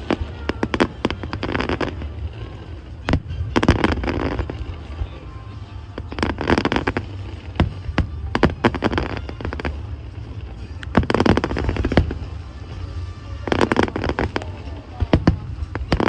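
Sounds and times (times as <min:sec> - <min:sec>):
fireworks booming and crackling: 0:00.0 - 0:16.0
low rumble: 0:00.0 - 0:16.0.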